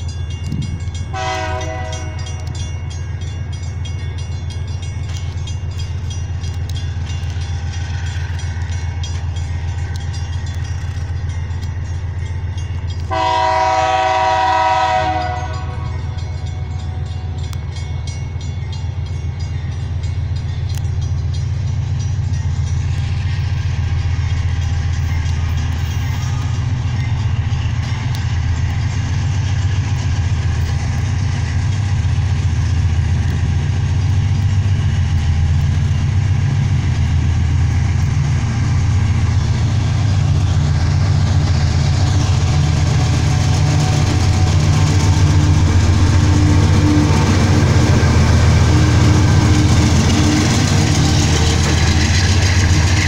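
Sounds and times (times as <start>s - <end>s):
locomotive engine rumble: 0.0s - 53.0s.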